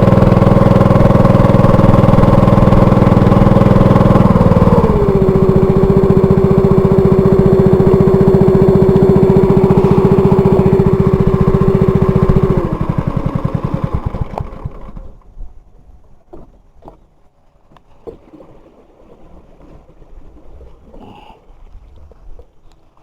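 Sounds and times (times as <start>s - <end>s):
small boat engine running: 0.0s - 23.0s.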